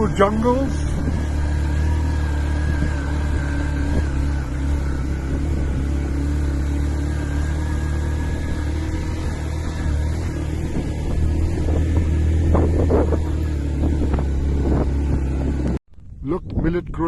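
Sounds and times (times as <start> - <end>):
motorcycle engine under load: 0.0 - 16.2.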